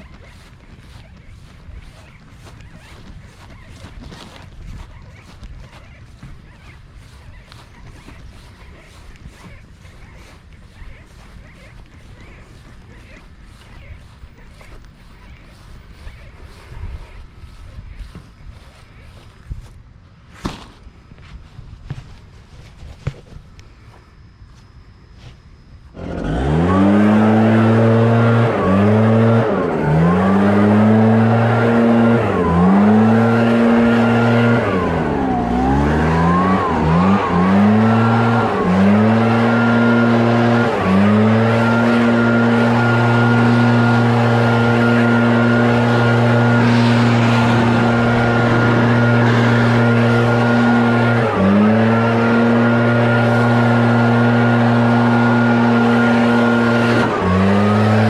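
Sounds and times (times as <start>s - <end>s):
small gas engine revving: 0.0s - 19.3s, 25.9s - 58.0s.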